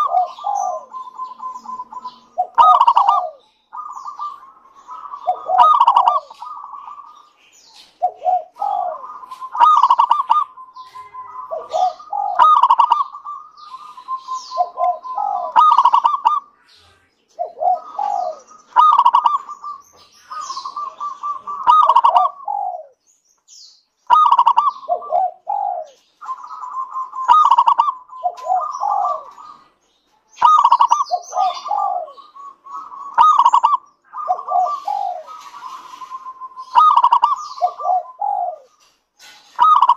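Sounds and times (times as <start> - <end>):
dove cooing: 0.0 - 16.6, 17.3 - 23.0, 24.0 - 39.9.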